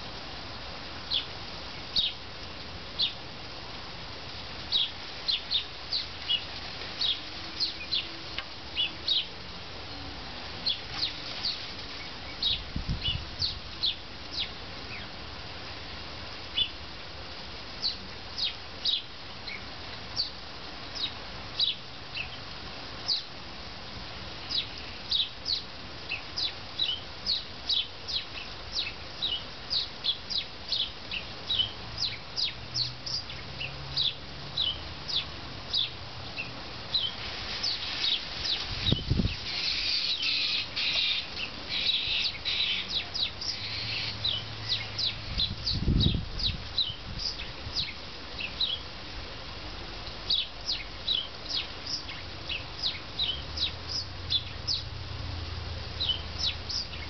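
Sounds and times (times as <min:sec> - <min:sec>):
small birds chirping: 0:01.0 - 0:02.2, 0:03.0 - 0:03.2, 0:04.6 - 0:15.2, 0:16.5 - 0:16.8, 0:17.7 - 0:23.4, 0:24.4 - 0:49.0, 0:50.0 - 0:55.0, 0:55.9 - 0:57.0.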